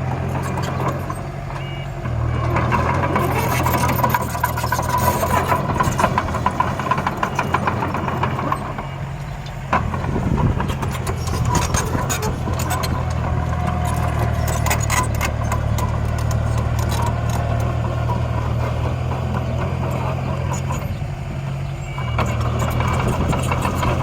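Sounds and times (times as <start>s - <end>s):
small engines humming: 0.0s - 24.0s
mechanical rattle and clatter: 2.6s - 8.8s, 9.7s - 21.1s, 22.0s - 24.0s.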